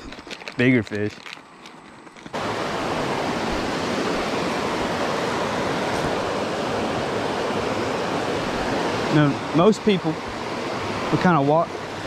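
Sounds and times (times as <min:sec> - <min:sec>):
creek water rushing: 0:02.3 - 0:12.0.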